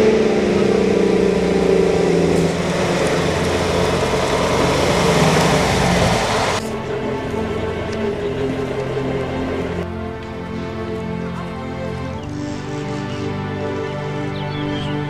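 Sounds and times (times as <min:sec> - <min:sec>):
diesel truck engine passing by: 0:00.0 - 0:15.0.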